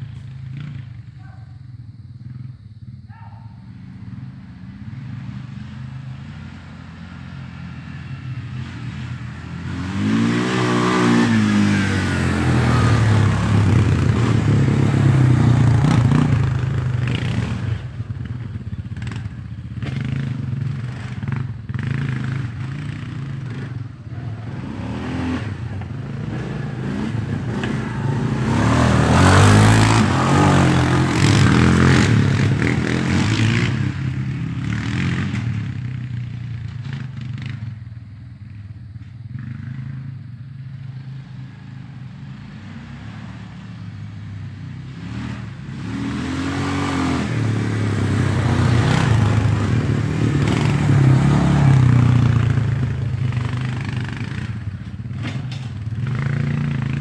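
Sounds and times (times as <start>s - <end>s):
off-road vehicle engine revving: 3.7s - 36.0s, 40.8s - 57.0s.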